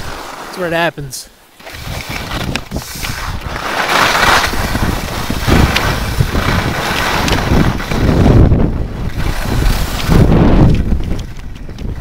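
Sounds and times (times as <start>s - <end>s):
wind buffeting microphone: 1.6s - 12.0s.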